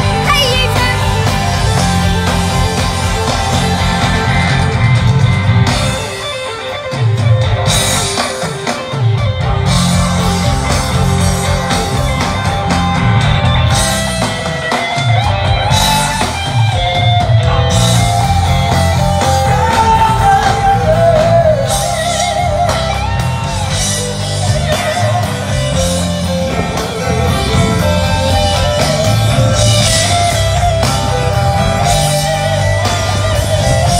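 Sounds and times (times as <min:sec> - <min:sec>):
drum kit: 0:00.0 - 0:33.9
electric guitars: 0:00.0 - 0:33.9.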